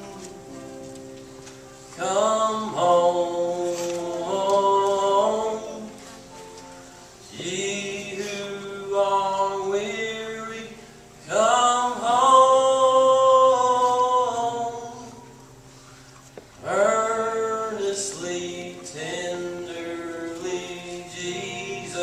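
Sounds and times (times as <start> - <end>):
choir singing slowly: 1.8 - 6.4, 7.1 - 15.5, 16.6 - 22.0.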